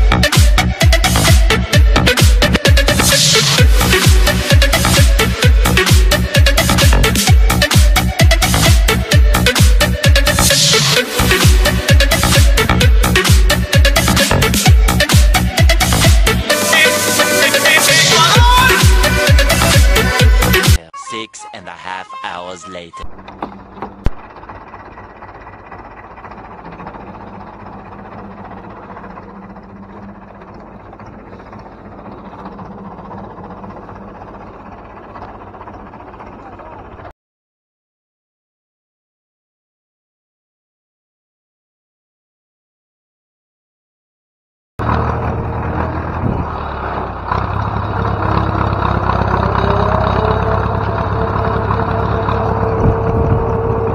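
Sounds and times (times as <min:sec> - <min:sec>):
diesel tractor engine idling: 0:00.0 - 0:20.8, 0:23.0 - 0:37.1, 0:44.8 - 0:53.9.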